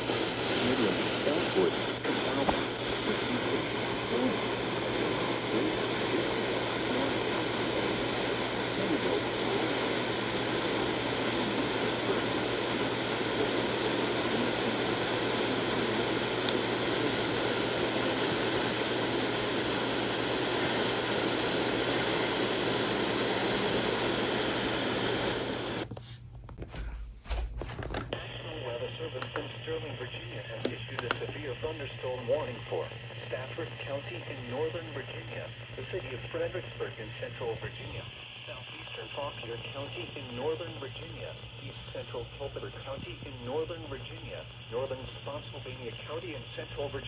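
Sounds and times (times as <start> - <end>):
radio static hiss: 0.0 - 47.0.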